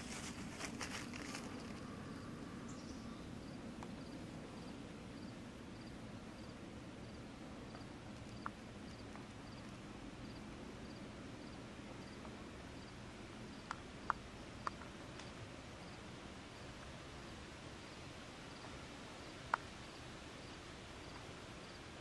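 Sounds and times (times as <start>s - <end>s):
cricket chirping: 0.0s - 21.9s
low steady background noise: 0.0s - 22.0s.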